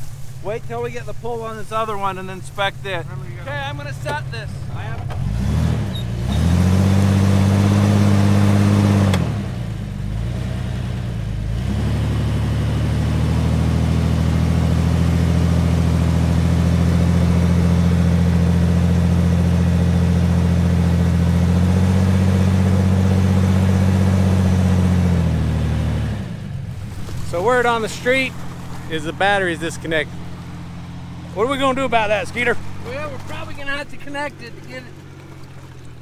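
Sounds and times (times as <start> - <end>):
engine revving under load: 1.7 - 36.0.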